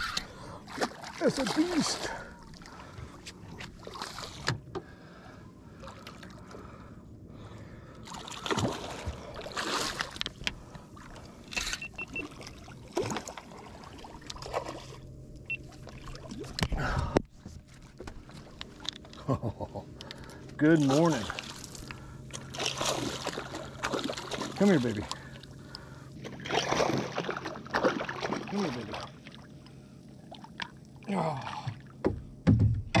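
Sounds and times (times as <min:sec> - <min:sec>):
water sloshing against hull: 0:00.0 - 0:33.0.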